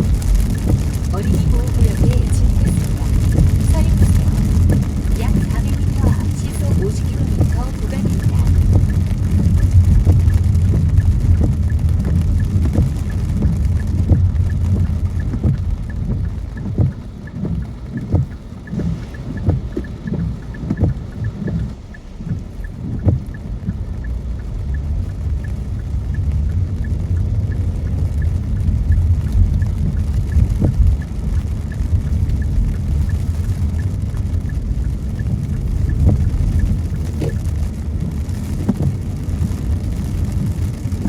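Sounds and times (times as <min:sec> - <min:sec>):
raindrops tapping on glass: 0:00.0 - 0:41.0
road and tyre rumble: 0:00.0 - 0:41.0.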